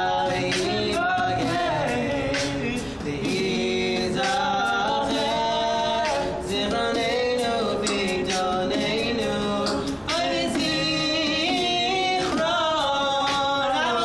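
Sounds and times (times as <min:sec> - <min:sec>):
beatboxed percussion: 0:00.0 - 0:14.0
men singing in harmony: 0:00.0 - 0:14.0.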